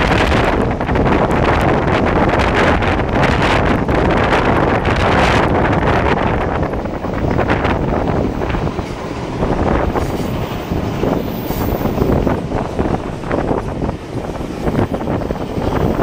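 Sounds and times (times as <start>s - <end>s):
train wheels rumbling on rails: 0.0s - 16.0s
wind buffeting microphone: 0.0s - 16.0s.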